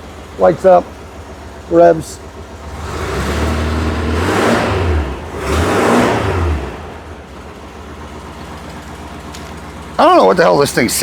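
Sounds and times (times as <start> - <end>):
engine revving and idling: 0.0 - 11.0.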